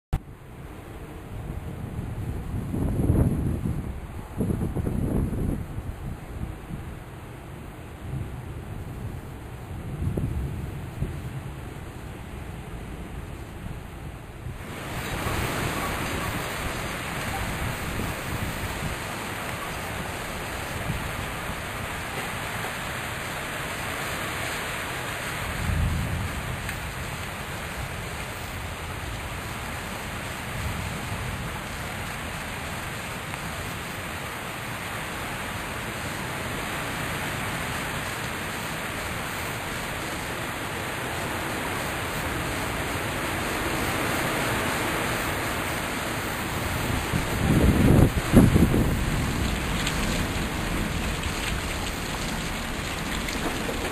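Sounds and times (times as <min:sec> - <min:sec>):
heavy rain hissing: 0:00.2 - 0:53.9.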